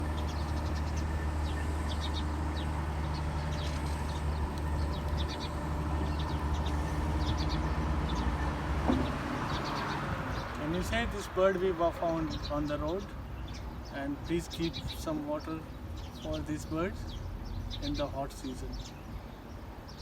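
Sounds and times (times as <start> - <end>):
low engine-like hum: 0.0 - 19.2.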